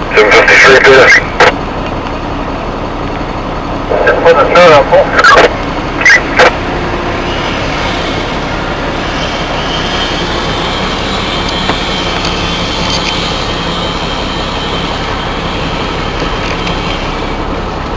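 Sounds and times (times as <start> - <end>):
faint high whine: 0.0 - 17.9
truck engine and road noise: 0.0 - 17.9.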